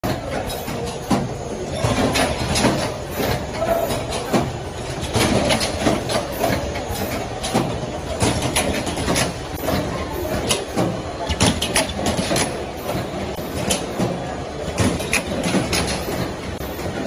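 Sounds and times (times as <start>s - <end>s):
labeling machine clatter: 0.0s - 17.0s.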